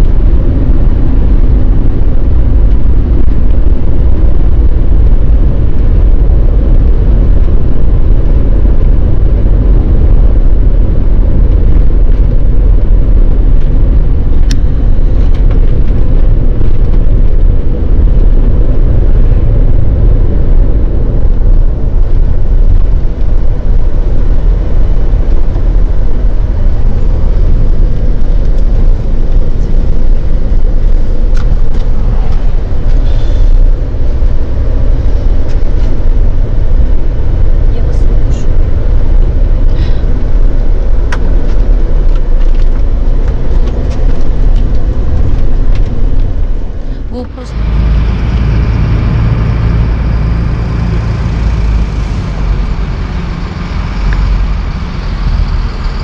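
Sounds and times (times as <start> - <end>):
bus engine and tyres rumbling: 0.0 - 56.0.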